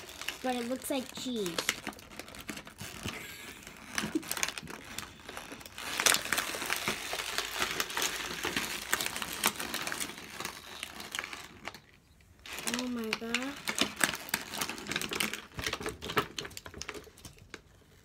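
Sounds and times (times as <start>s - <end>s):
plastic packaging crinkling: 0.0s - 18.0s
sharp plastic crack: 0.0s - 18.0s.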